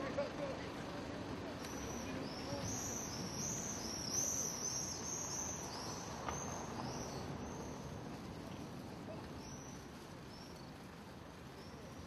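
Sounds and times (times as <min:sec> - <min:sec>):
faint outdoor background noise: 0:00.0 - 0:12.0
small birds chirping: 0:01.5 - 0:12.0.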